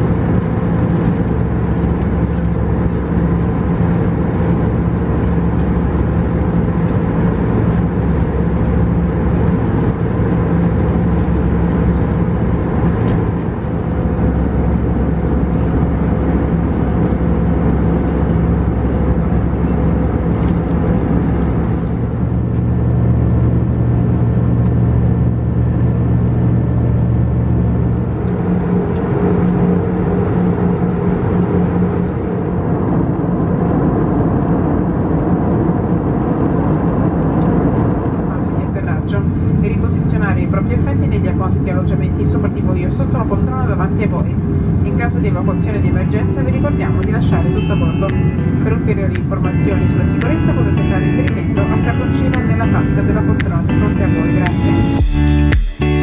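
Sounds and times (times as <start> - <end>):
jet engines in aircraft cabin: 0.0 - 55.2.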